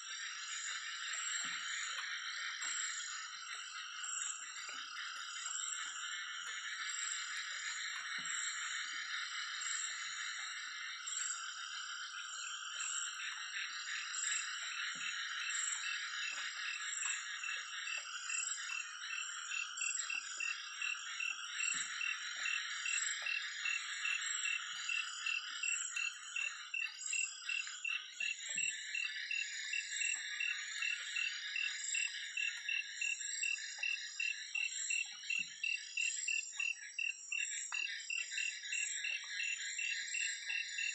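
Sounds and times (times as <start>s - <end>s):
frogs and insects trilling: 0.0s - 40.9s.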